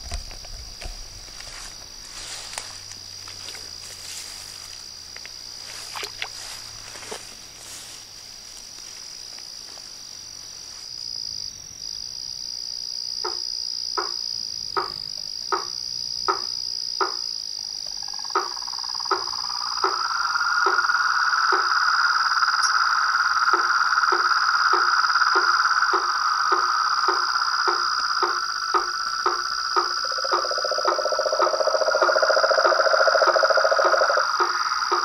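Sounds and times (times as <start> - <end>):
high-pitched cricket trill: 0.0 - 35.0.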